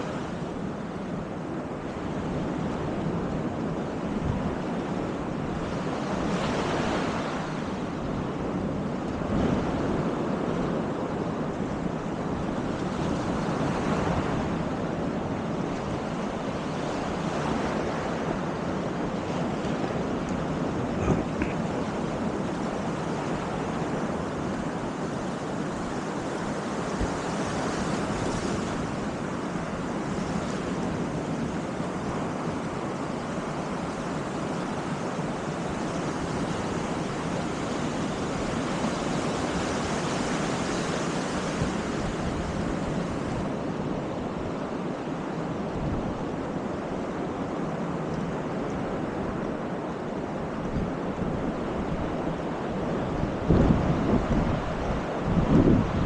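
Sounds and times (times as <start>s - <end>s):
surf washing onto beach: 0.0s - 56.0s
wind: 0.0s - 56.0s.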